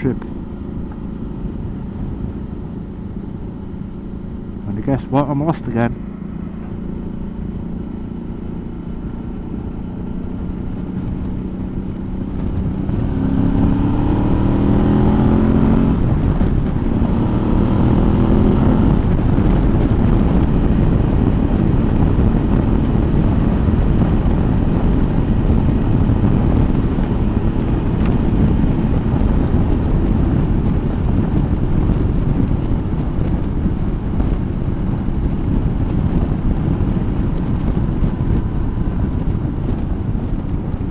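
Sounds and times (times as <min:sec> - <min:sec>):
motorcycle engine accelerating: 0:00.0 - 0:40.9
wind and road noise: 0:00.0 - 0:40.9.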